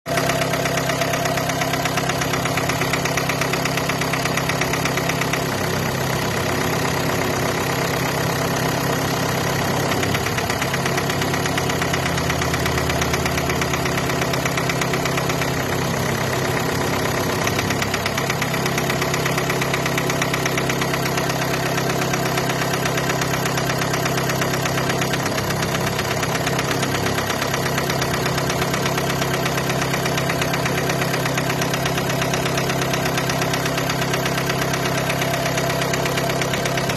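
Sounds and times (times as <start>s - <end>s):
diesel engine idling with knocking: 0.1s - 36.9s.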